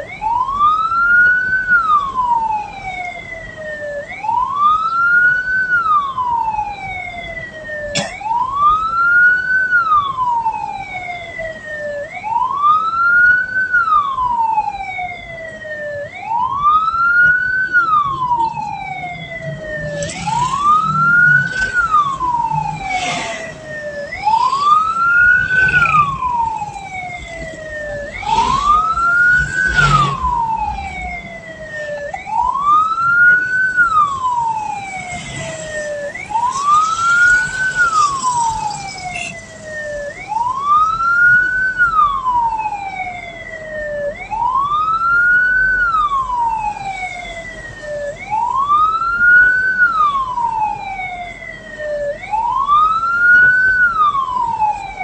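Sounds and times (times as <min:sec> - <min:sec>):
electronic siren wailing: 0:00.0 - 0:55.0.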